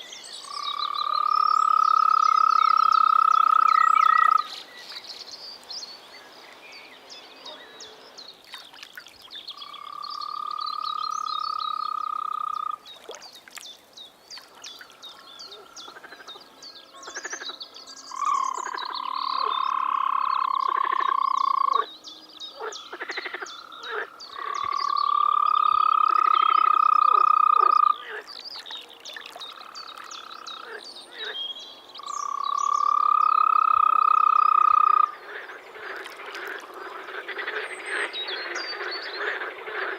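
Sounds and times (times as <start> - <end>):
frogs croaking and clicking: 0.4 - 5.0, 8.4 - 21.9, 22.5 - 31.4, 32.0 - 39.9.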